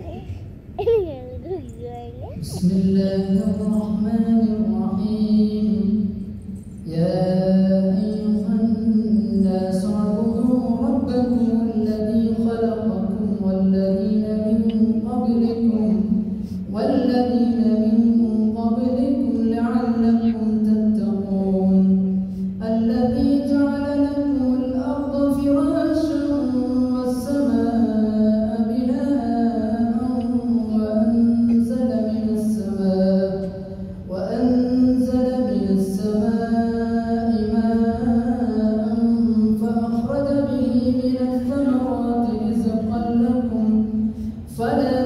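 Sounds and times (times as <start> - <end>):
man chanting recitation: 2.4 - 45.0.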